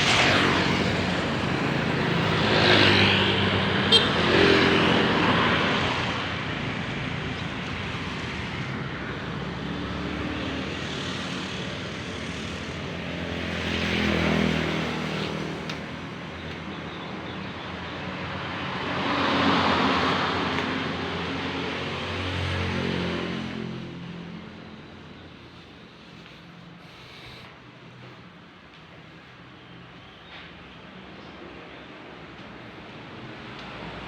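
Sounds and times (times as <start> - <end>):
vehicles passing: 0.0 - 29.5
steady traffic rumble: 0.0 - 34.0.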